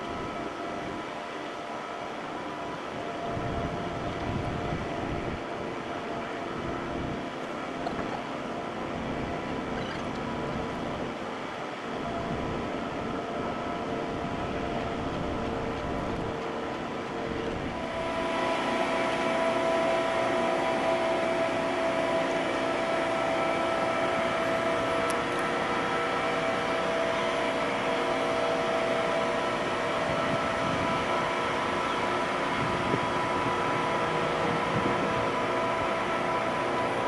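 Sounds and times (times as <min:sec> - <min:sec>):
high machinery tone: 0:00.0 - 0:37.0
ship engines humming: 0:00.0 - 0:37.0.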